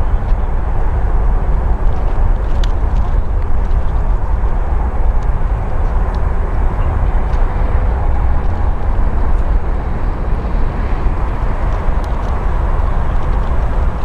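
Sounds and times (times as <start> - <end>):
jet engines at takeoff thrust: 0.1 - 14.0.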